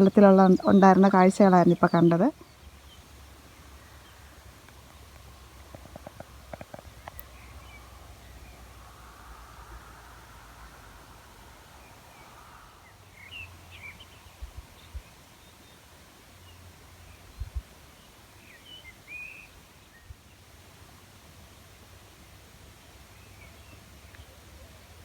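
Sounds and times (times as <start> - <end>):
faint outdoor hush: 0.0 - 25.0
songbirds chirping: 0.0 - 25.0.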